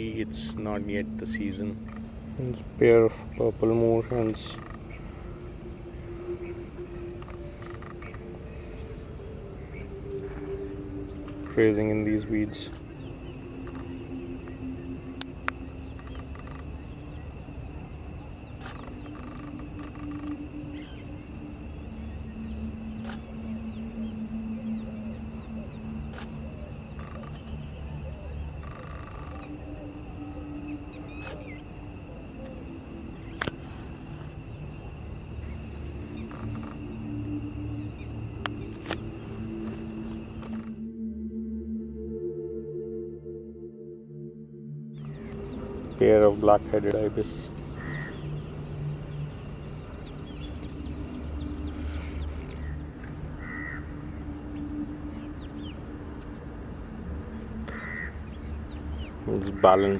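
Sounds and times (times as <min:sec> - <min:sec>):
bird calls: 0:00.0 - 0:40.8, 0:45.0 - 0:59.9
faint bird chirps: 0:00.0 - 0:40.8, 0:45.0 - 0:59.9
steady low hum: 0:00.0 - 0:59.9
steady low rumble: 0:00.0 - 0:59.9
thin high drone: 0:00.0 - 0:59.9.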